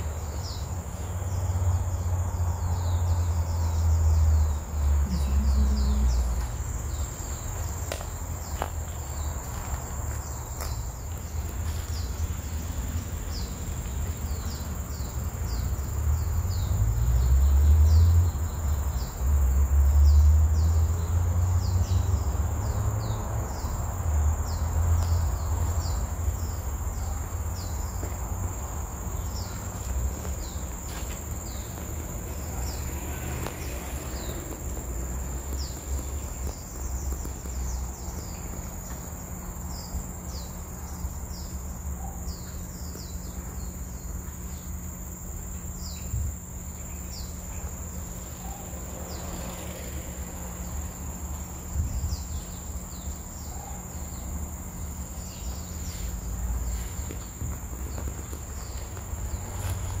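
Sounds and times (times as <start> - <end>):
high-pitched insect drone: 0.0 - 60.0.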